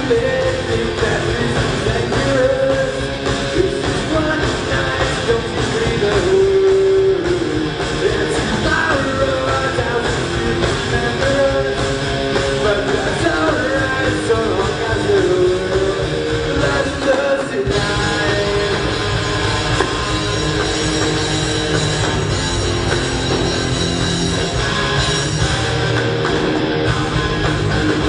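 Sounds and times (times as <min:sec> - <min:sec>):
sung vocals: 0:00.0 - 0:22.5
live rock band: 0:00.0 - 0:28.0.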